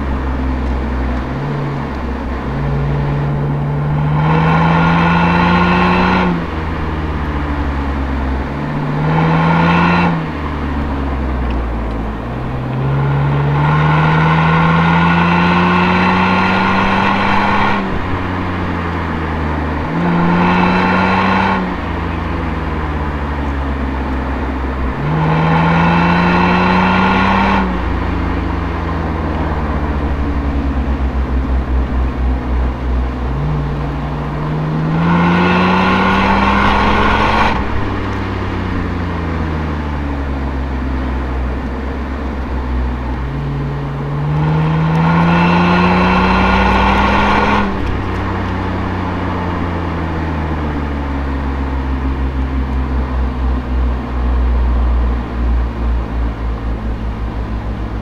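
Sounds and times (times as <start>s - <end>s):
car engine revving through exhaust: 0.0s - 58.0s.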